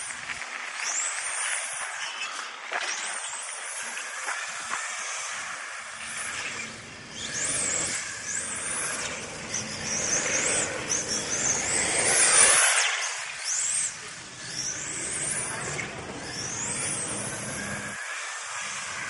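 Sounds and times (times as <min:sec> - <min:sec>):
model car motors whining: 0:00.0 - 0:19.0.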